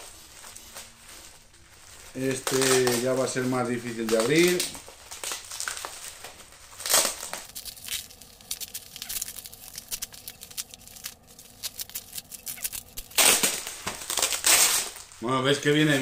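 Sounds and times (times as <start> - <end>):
bubble wrap crinkling: 0.0 - 16.0
plastic ripping: 0.4 - 16.0.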